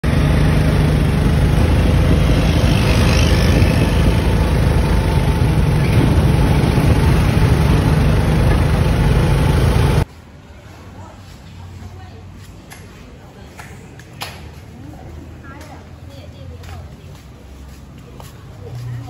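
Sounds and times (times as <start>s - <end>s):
scooters and cars on road: 0.0s - 19.0s.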